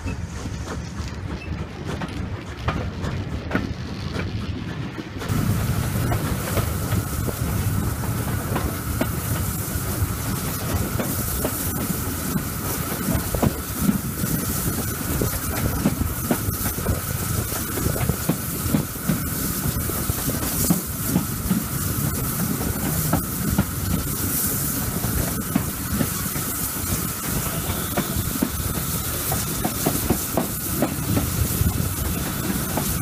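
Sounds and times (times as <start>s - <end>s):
steady rushing noise: 0.0s - 33.0s
train wheels clicking over track: 0.0s - 33.0s.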